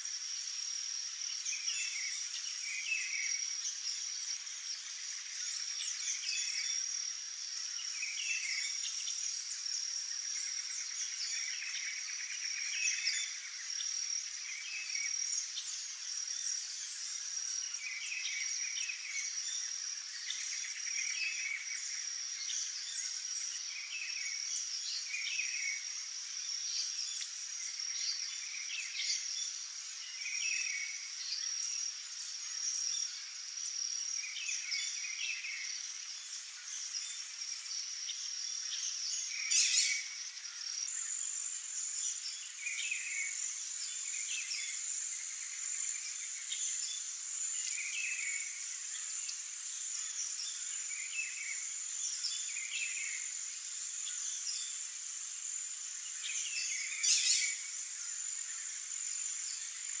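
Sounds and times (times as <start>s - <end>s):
high-pitched insect drone: 0.0s - 60.0s.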